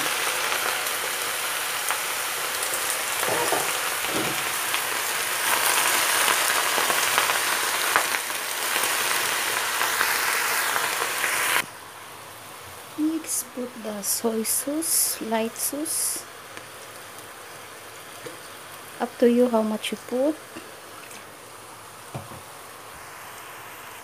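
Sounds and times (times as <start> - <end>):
vegetables sizzling in frying pan: 0.0 - 24.0.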